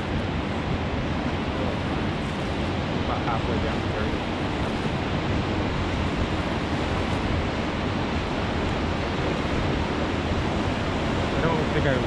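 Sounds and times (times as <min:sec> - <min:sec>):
whitewater rushing: 0:00.0 - 0:12.0
wind noise on microphone: 0:00.0 - 0:12.0.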